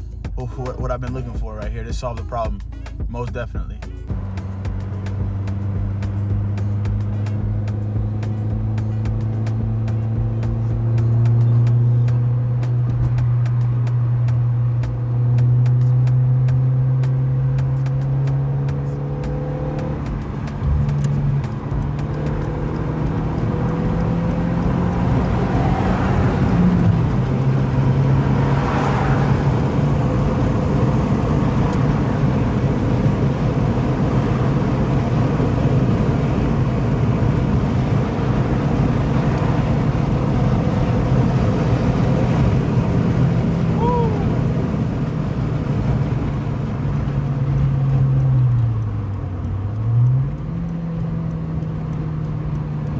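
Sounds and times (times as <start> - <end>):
car engine running: 0.0 - 52.9.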